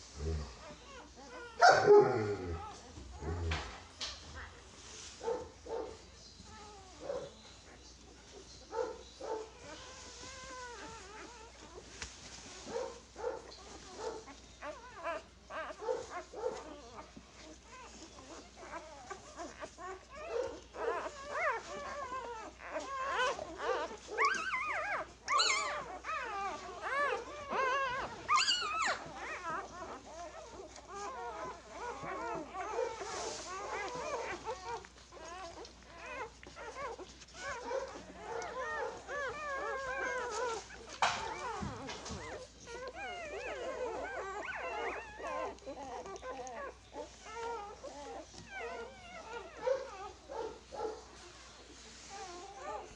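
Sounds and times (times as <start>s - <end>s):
puppies whimpering and squeaking: 0.0s - 52.9s.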